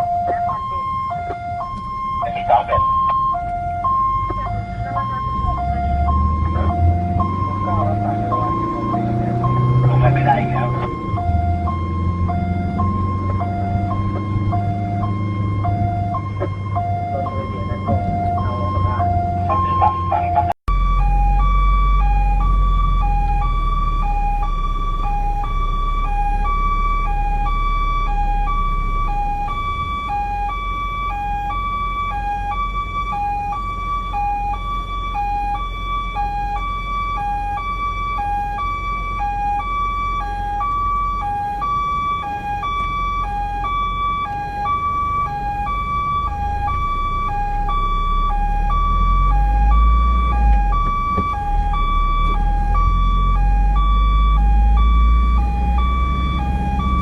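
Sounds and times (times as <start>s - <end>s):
ambulance siren two-tone: 0.0s - 57.0s
engine and road rumble: 0.0s - 57.0s.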